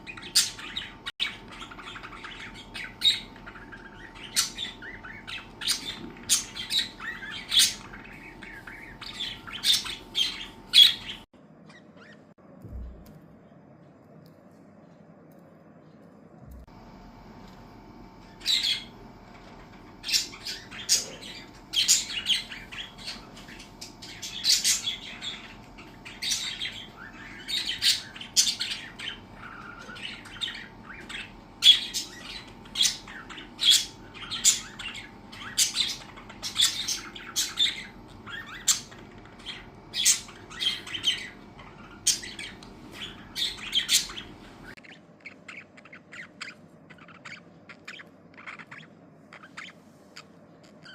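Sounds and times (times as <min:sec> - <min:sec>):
budgerigars chirping and squawking: 0:00.0 - 0:12.3, 0:18.2 - 0:50.9.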